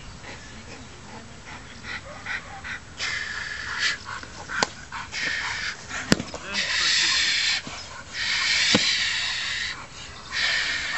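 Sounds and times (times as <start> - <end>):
dog panting: 0.2 - 10.9
dog rasping breath: 0.2 - 10.9.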